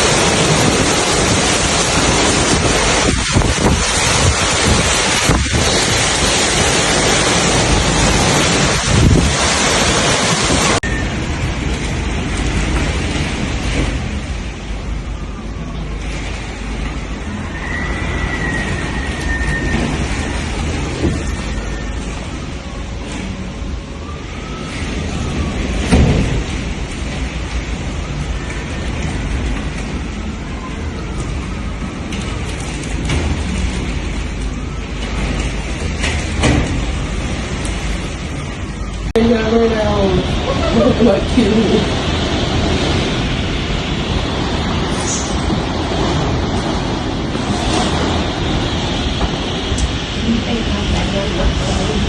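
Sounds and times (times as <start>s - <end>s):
rain rushing: 0.0s - 52.0s
strong wind buffeting microphone: 0.0s - 52.0s.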